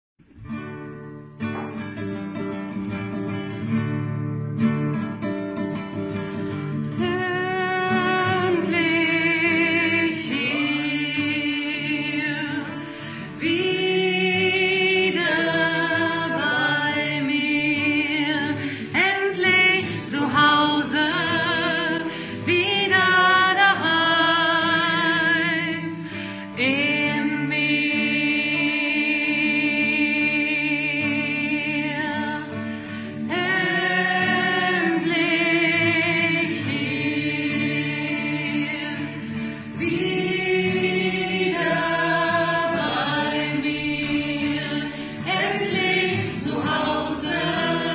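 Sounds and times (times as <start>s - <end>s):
choir singing in harmony: 7.6s - 47.9s.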